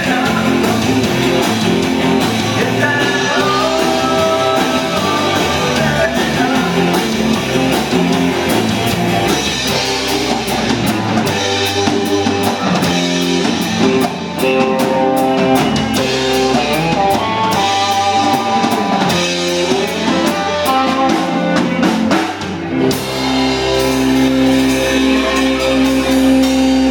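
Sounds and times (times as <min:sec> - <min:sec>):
live rock band playing: 0:00.0 - 0:26.9.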